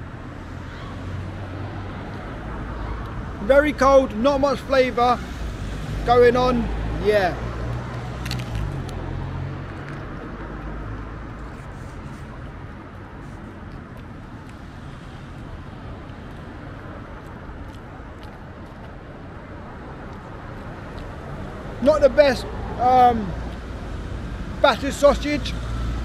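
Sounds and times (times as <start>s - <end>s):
cars passing: 0.0s - 26.0s
traffic noise: 0.0s - 26.0s.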